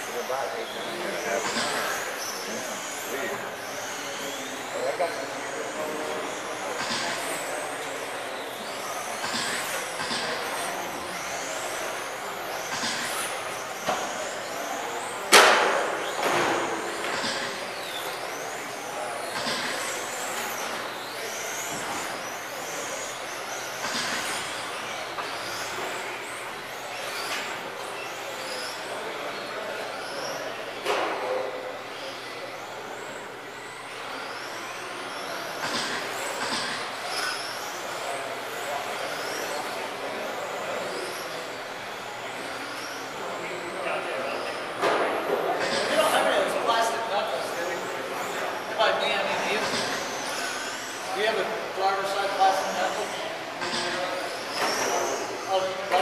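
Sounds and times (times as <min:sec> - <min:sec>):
rc car motor and gear whine: 0:00.0 - 0:56.0.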